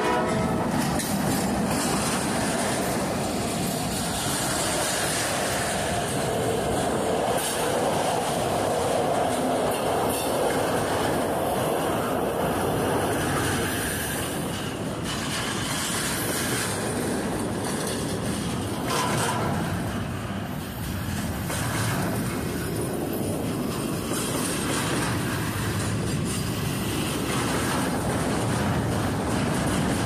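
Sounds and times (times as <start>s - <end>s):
freight train wheels clattering: 0.0s - 30.0s.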